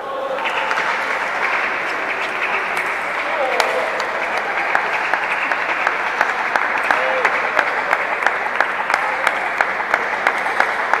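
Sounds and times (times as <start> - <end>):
din of busy hall: 0.0 - 11.0.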